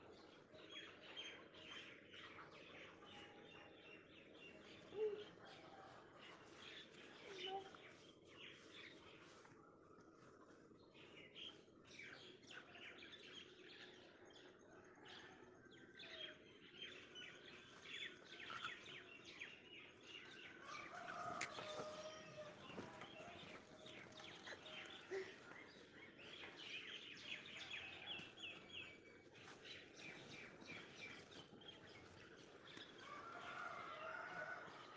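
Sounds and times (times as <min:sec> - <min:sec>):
small birds chirping: 0:00.0 - 0:14.3, 0:16.1 - 0:34.7.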